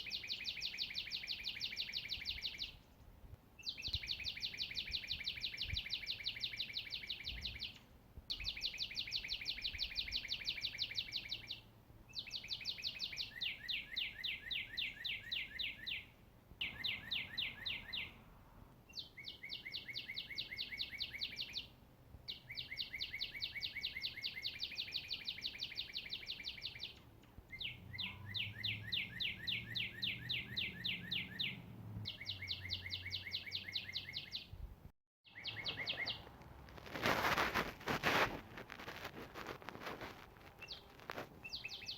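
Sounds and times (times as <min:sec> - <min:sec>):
songbird trilling: 0:00.0 - 0:02.8, 0:03.6 - 0:18.2, 0:18.9 - 0:21.7, 0:22.3 - 0:34.5, 0:35.3 - 0:36.3, 0:40.6 - 0:41.9.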